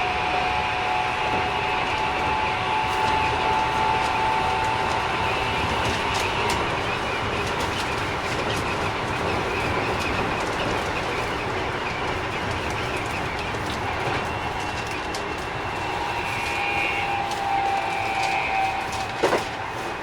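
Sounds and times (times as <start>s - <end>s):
train wheels rumbling on rails: 0.0s - 20.0s
sharp clicks from track: 2.9s - 20.0s.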